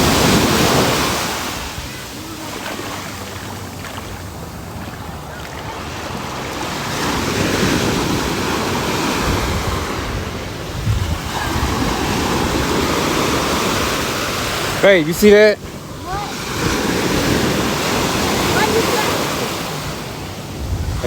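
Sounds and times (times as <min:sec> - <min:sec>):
wind buffeting microphone: 0:00.0 - 0:14.8, 0:15.6 - 0:21.0
ocean surf washing onto beach: 0:00.0 - 0:21.0.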